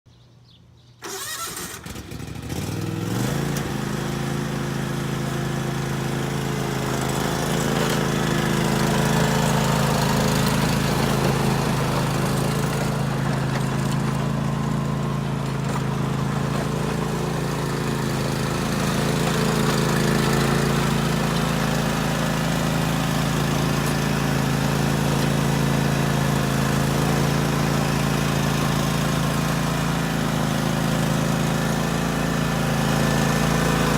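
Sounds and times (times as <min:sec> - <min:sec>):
lawn tractor engine starting: 0:01.0 - 0:33.9.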